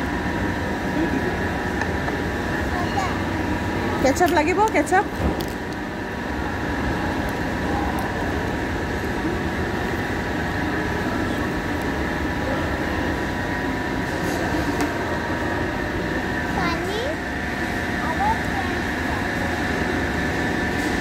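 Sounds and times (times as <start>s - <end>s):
ventilation hum: 0.0s - 21.0s
murmur of many voices: 0.3s - 21.0s.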